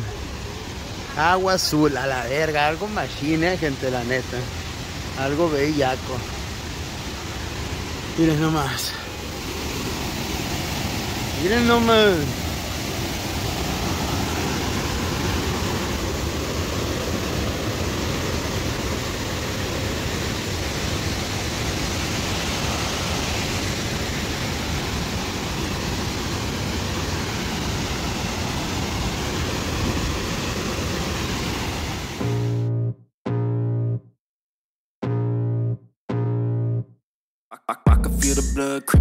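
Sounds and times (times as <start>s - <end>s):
waterfall rushing: 0.0s - 32.3s.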